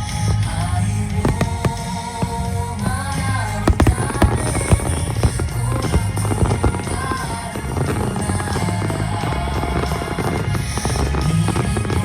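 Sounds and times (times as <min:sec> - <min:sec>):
fireworks bangs: 0:00.0 - 0:12.0
music playing: 0:00.0 - 0:12.0.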